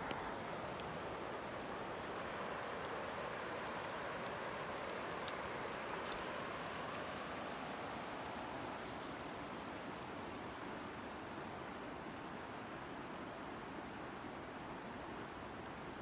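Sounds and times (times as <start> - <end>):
river water flowing over cobbles: 0.0 - 16.0.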